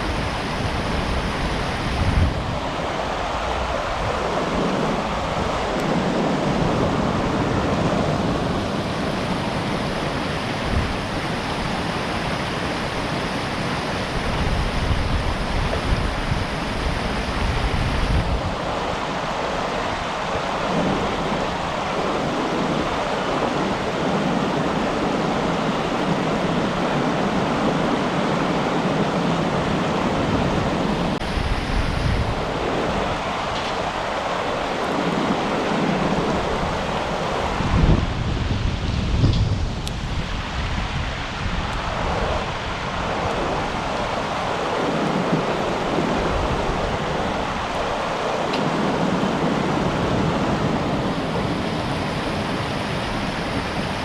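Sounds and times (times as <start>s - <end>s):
river water rushing: 0.0s - 54.0s
wind buffeting microphone: 0.0s - 54.0s.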